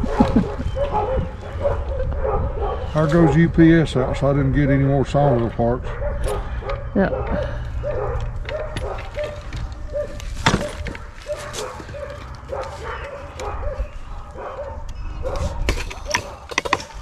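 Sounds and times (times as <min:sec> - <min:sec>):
dog yipping and whining: 0:00.0 - 0:03.4, 0:05.9 - 0:17.0.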